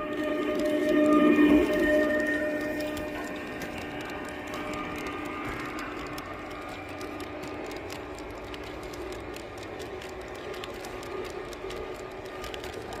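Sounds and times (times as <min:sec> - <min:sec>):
train wheels clicking on track: 0:00.0 - 0:13.0.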